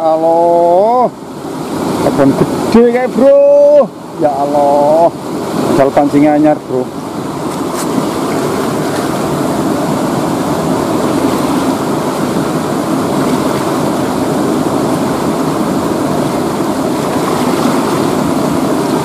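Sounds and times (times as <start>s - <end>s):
river water rushing over rocks: 0.0s - 19.0s.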